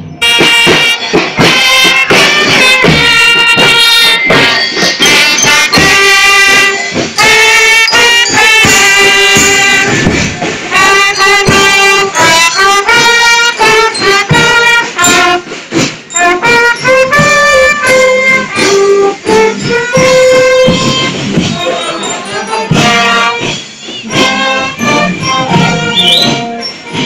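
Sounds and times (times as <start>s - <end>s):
brass melody: 0.0s - 27.0s
drum strokes: 0.0s - 27.0s
marching band playing: 0.0s - 27.0s.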